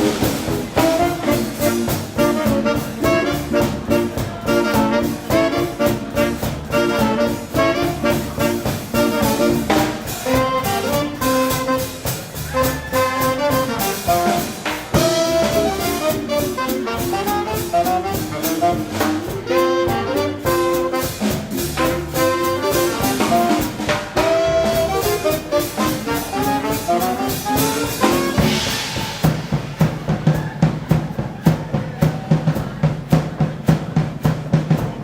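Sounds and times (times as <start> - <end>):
steady drum beat: 0.0 - 35.0
swing band playing: 0.0 - 35.0.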